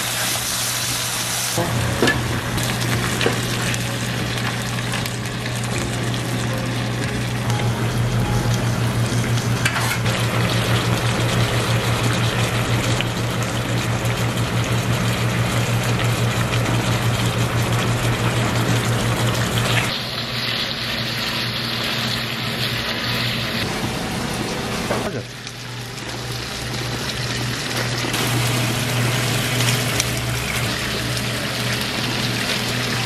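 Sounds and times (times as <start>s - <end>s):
chicken frying in a pan: 0.0s - 33.0s.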